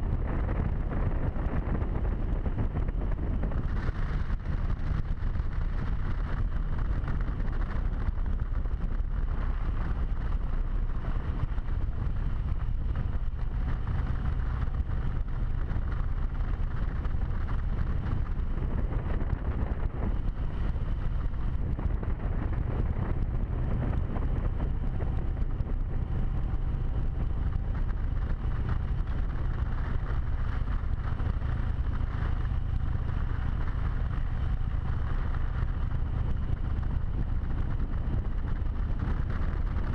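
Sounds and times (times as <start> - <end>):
motorcycle engine rumble: 0.0 - 39.9
wind rush on camera: 0.0 - 39.9.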